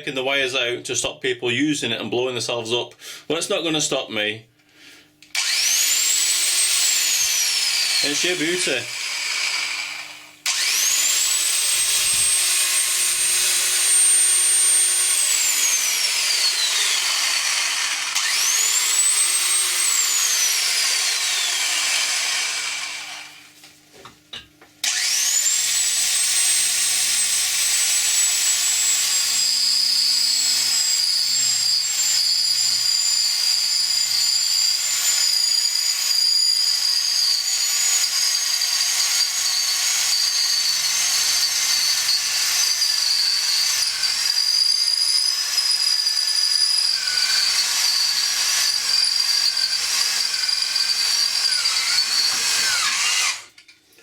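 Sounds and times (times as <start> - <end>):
electric drill motor whining: 5.3 - 23.5, 24.8 - 53.5.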